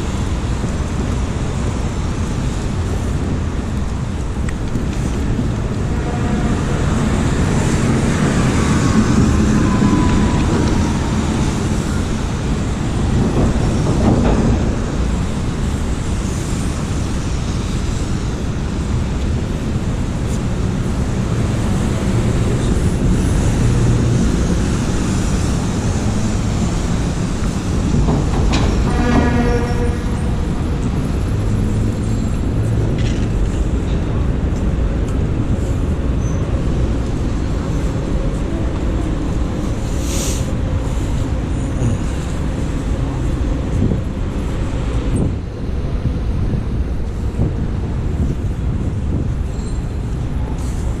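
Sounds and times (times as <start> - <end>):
train rumbling and rattling: 0.0 - 51.0.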